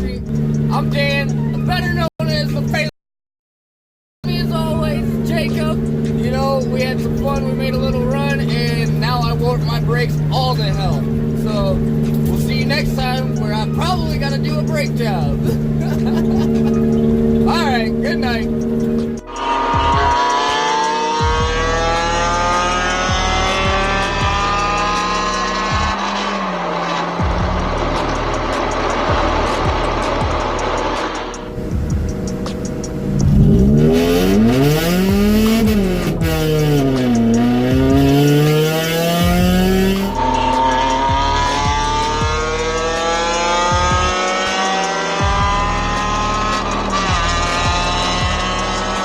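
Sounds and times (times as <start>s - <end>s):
music with steady beat: 0.0s - 2.0s, 4.3s - 49.0s
car engine accelerating: 0.0s - 2.9s, 4.2s - 49.0s.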